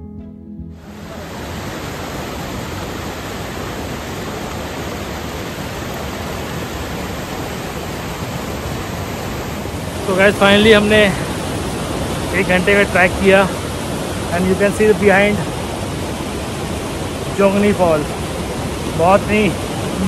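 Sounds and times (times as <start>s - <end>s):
waterfall rushing: 0.7s - 20.0s.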